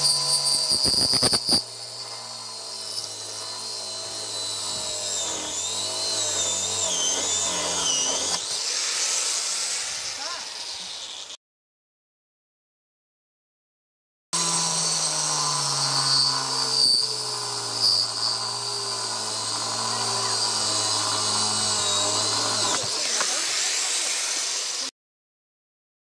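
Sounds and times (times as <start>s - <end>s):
angle grinder cutting stone: 0.0s - 11.4s, 14.4s - 24.9s.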